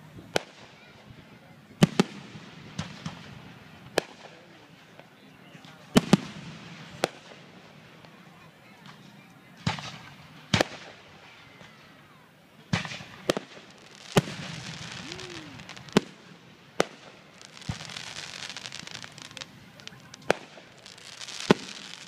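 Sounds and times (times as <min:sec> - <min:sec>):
fireworks bangs: 0:00.0 - 0:05.1, 0:05.9 - 0:08.2, 0:08.8 - 0:11.9, 0:12.7 - 0:22.0
fireworks crackling: 0:00.0 - 0:22.0.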